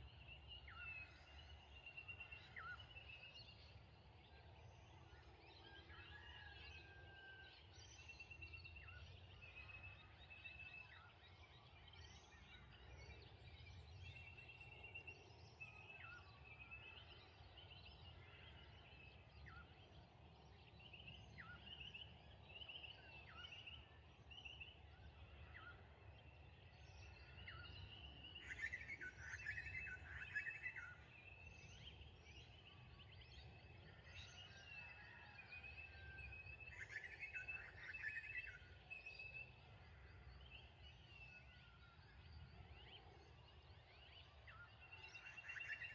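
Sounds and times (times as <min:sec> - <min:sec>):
faint birds chirping: 0:00.0 - 0:45.9.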